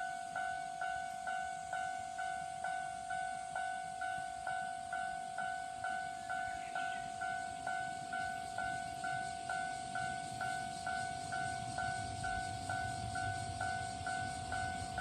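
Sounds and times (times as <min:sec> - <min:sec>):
level crossing warning bell ringing: 0:00.0 - 0:15.0.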